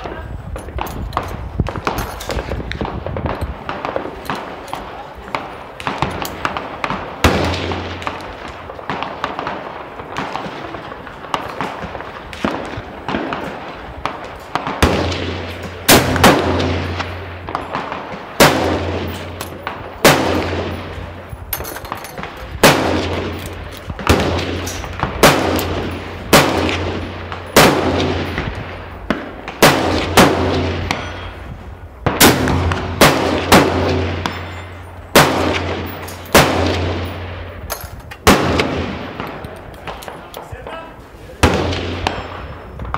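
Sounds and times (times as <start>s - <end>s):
echoing gunshots: 0.0s - 40.7s, 41.4s - 42.9s.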